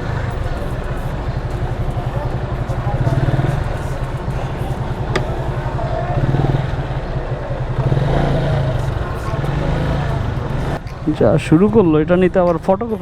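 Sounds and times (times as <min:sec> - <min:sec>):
faint voices: 0:00.0 - 0:13.0
motorcycle engine idling: 0:00.0 - 0:13.0.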